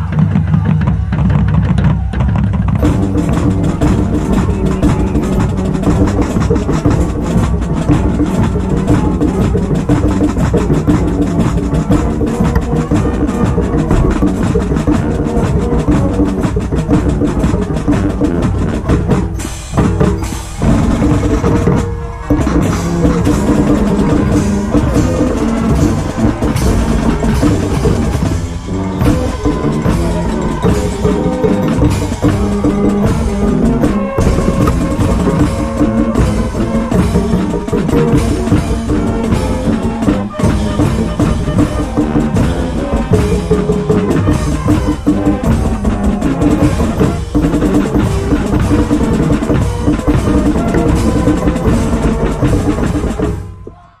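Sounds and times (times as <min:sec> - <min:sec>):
snare and bass drums: 0:00.0 - 0:53.8
marching band brass: 0:00.0 - 0:54.0.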